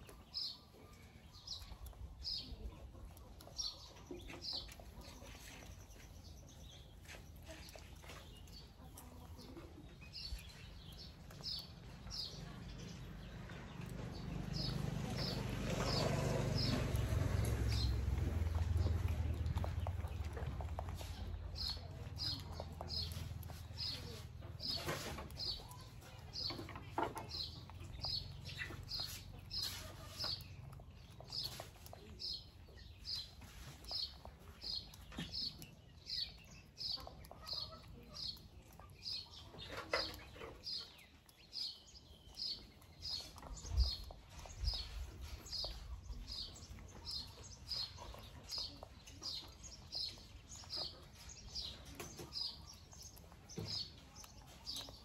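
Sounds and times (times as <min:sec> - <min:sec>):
small bird chirping: 0:00.0 - 0:55.0.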